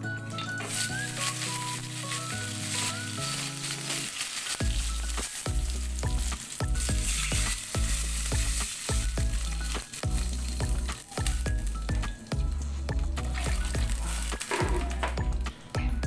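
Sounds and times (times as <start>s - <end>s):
background music with steady beat: 0.0s - 16.0s
vegetables sizzling in hot oil: 0.1s - 15.4s
water being poured: 0.3s - 12.4s, 13.2s - 15.1s.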